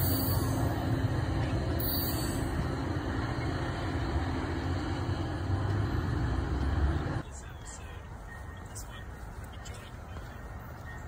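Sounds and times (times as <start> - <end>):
diesel engine rumble: 0.0 - 11.0
train rolling noise: 0.0 - 11.0.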